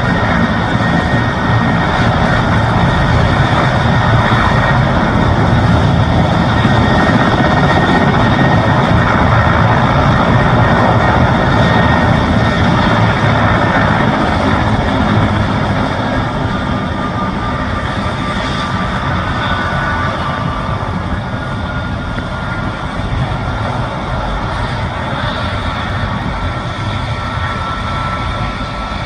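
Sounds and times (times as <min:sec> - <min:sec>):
helicopter turbine and rotor roar: 0:00.0 - 0:29.0.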